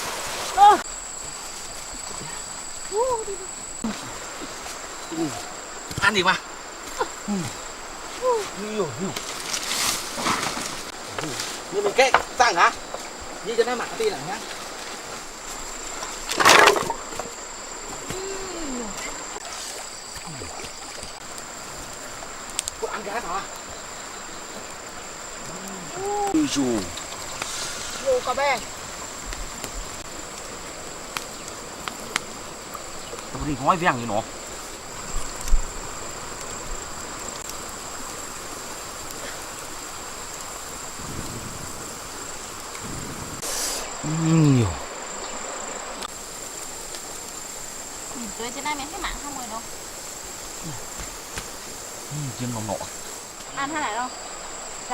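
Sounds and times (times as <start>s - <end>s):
high-pitched insect drone: 0.0s - 54.9s
rushing water: 0.0s - 54.9s.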